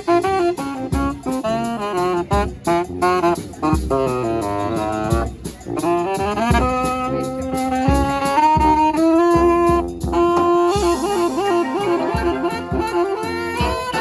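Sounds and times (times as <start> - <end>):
horns playing in harmony: 0.0 - 14.0
low drum beats: 0.0 - 14.0.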